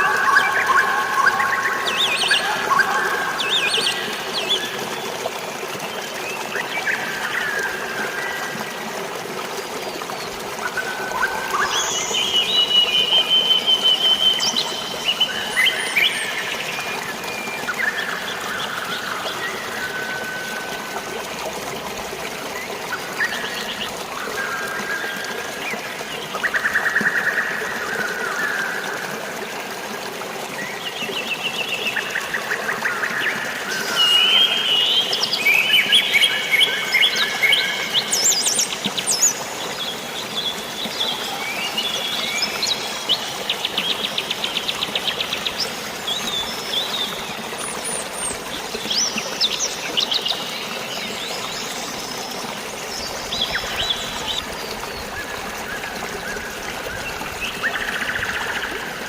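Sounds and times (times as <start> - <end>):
flowing water hiss: 0.0 - 59.0.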